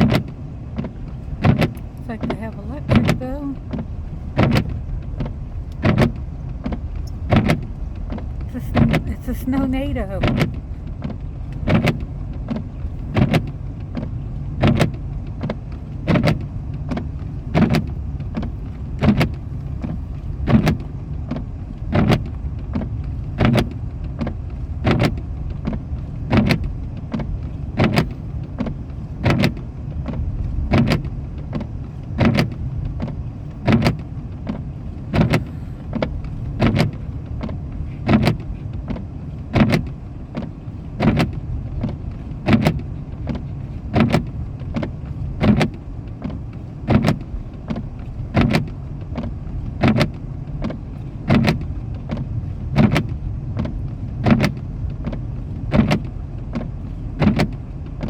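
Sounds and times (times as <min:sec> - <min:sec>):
car engine and road rumble: 0:00.0 - 0:58.0
windshield wipers knocking: 0:00.0 - 0:58.0.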